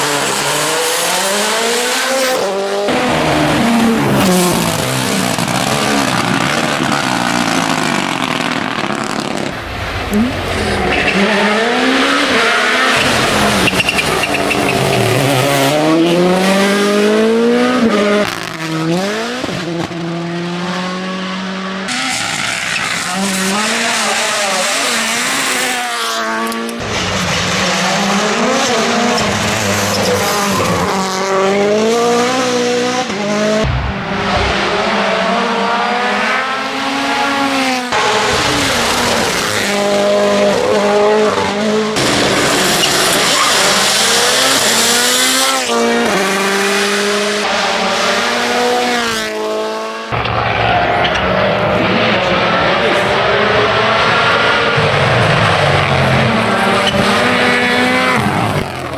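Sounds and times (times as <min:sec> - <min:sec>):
rally car engines revving hard: 0:00.0 - 0:58.9.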